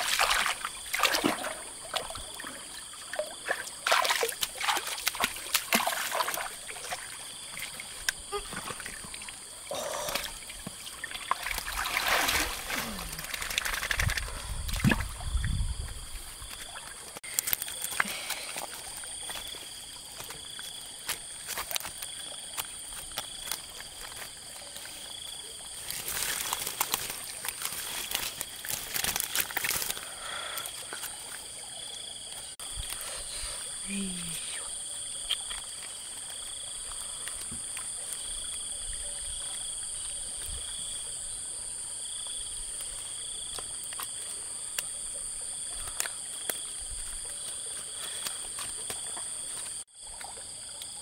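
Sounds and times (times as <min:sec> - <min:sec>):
water sloshing and trickling: 0:00.0 - 0:51.0.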